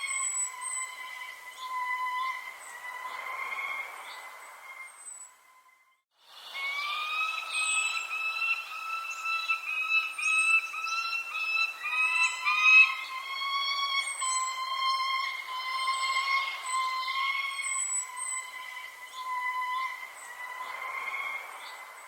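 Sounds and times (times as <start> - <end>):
small birds chirping: 0.0 - 5.7, 6.3 - 22.0
steady whistling tone: 0.0 - 22.0.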